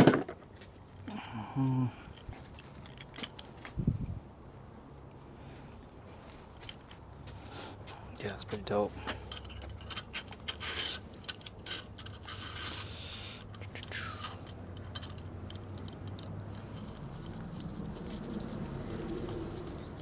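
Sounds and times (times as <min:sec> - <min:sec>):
light metallic clicks and scraping: 0:00.1 - 0:03.8, 0:04.9 - 0:20.0.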